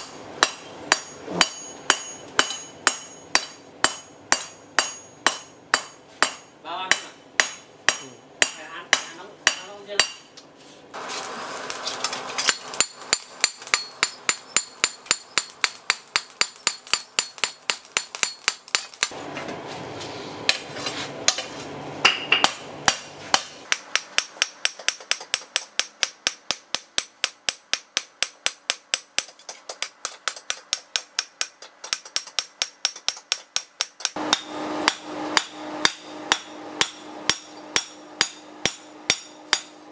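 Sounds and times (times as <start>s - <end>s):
hammer striking metal on anvil: 0.0s - 10.4s, 12.4s - 19.2s, 21.3s - 39.9s.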